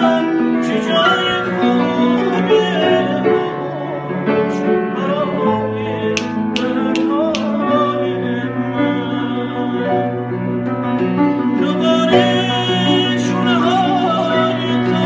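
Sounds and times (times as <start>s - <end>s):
man singing: 0.0s - 10.6s, 11.2s - 15.0s
grand piano slow melody: 0.0s - 15.0s.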